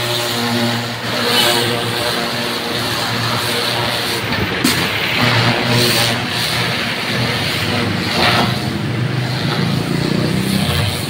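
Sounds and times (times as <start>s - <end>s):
pressure washer humming: 0.0s - 11.0s
water jet hissing on concrete: 0.0s - 11.0s.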